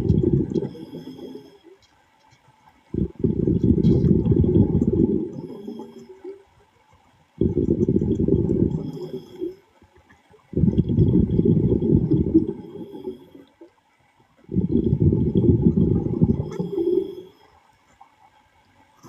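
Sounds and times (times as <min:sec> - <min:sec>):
exhaled bubbles gurgling underwater: 0:00.0 - 0:01.8, 0:02.8 - 0:19.0.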